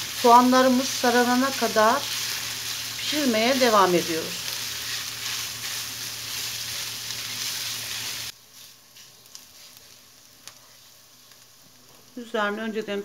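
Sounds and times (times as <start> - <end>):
meat and vegetables sizzling: 0.0 - 13.0.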